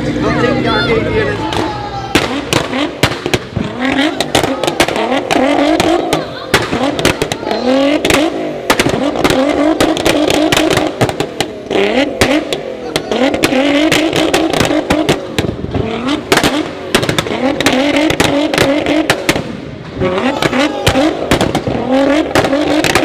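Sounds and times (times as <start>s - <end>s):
car engine revving: 0.0s - 23.0s
exhaust pops and bangs: 1.4s - 23.0s.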